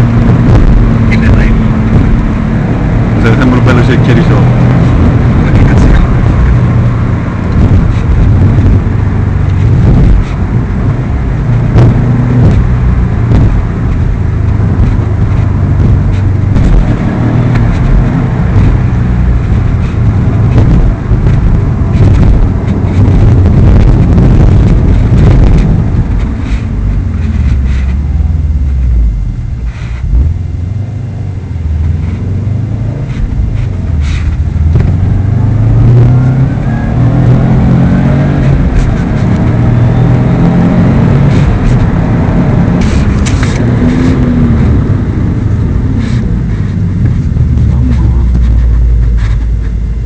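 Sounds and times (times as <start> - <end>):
car engine rumbling: 0.0 - 50.0.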